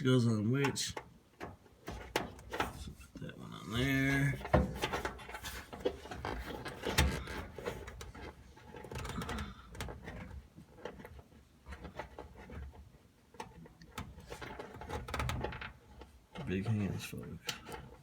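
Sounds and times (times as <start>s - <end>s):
wire connectors clicking and rubbing: 0.6s - 18.0s.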